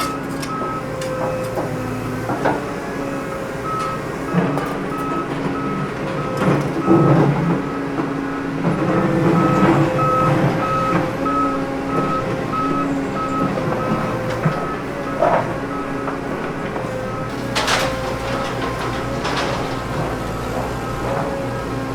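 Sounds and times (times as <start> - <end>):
reversing alarm beeping: 0.0 - 21.9.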